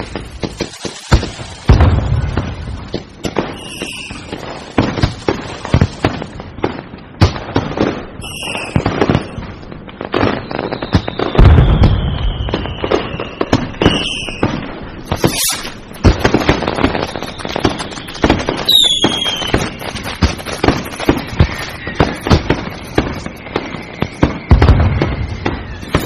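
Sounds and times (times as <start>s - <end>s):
whistling firework shells: 0.0s - 6.8s, 7.4s - 26.0s
deep firework boom: 0.0s - 7.9s, 10.2s - 26.0s
firecrackers cracking and banging: 0.0s - 26.0s.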